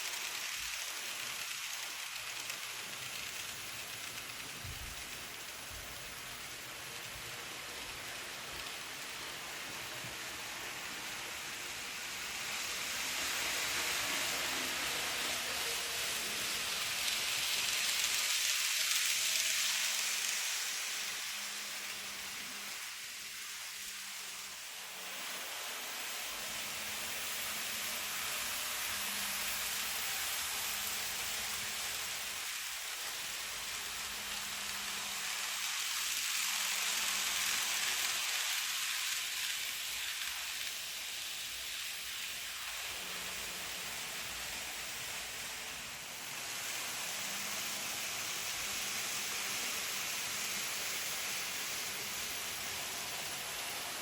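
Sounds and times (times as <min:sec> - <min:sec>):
model train wheels on rail: 0:00.0 - 0:54.0.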